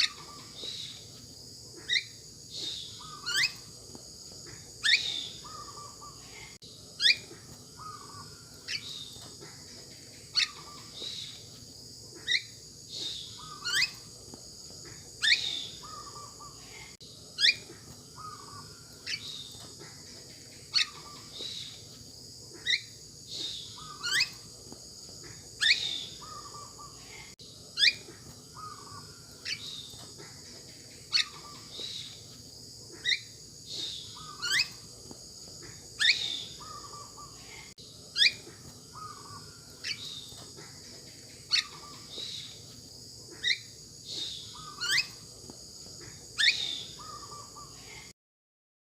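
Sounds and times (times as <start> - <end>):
birds calling with upward notes: 0.0 - 48.0
steady high-pitched hum: 0.0 - 48.1.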